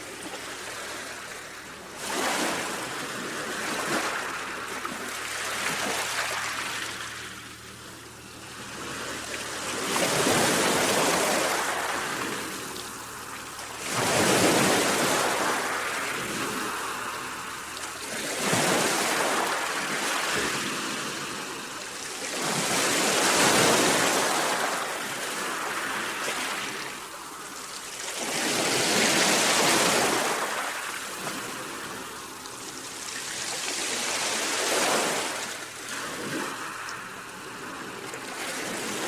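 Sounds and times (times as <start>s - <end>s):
waves breaking on shore: 0.0s - 39.0s.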